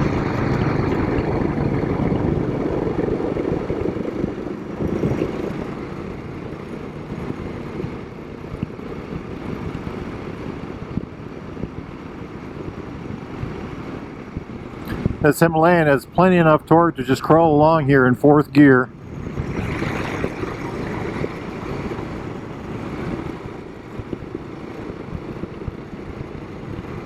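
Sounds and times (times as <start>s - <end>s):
motorcycle engine at low revs: 0.0s - 15.2s, 18.9s - 27.0s
wind noise on microphone: 0.0s - 27.0s.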